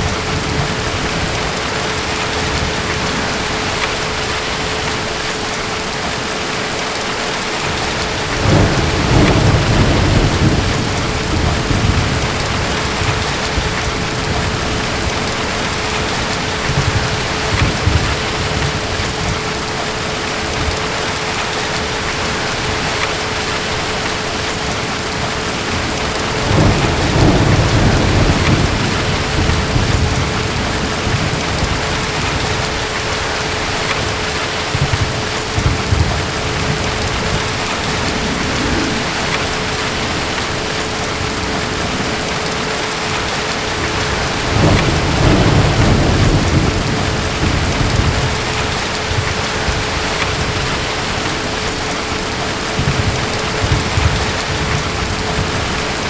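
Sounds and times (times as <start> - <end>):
heavy rain: 0.0 - 56.0
distant thunder rumbling: 7.5 - 56.0.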